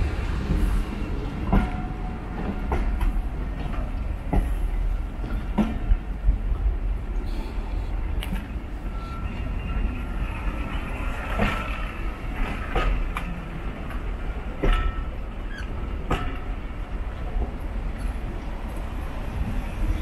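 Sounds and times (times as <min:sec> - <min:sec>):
wheels clacking over rail joints: 0:00.0 - 0:06.7, 0:08.1 - 0:19.0
coach wheels rumbling on rail: 0:00.0 - 0:20.0.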